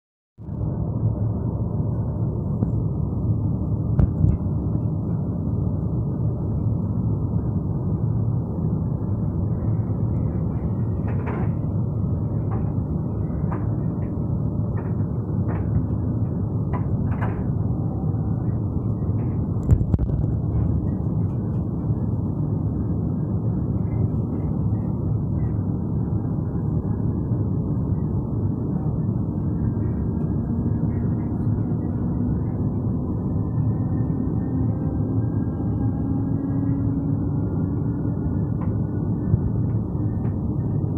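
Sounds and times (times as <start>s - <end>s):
train rumble: 0.4s - 40.9s.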